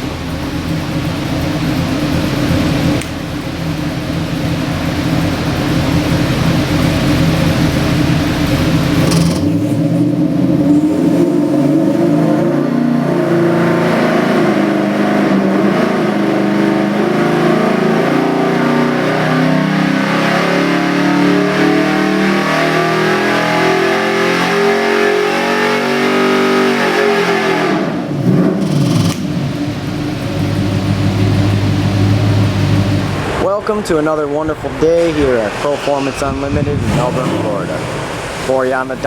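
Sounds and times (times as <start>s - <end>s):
engine running at high rpm: 0.0s - 39.0s.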